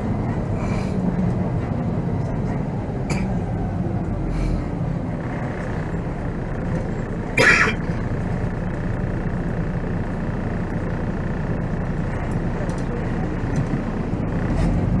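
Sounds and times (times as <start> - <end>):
diesel coach engine running: 0.0 - 15.0.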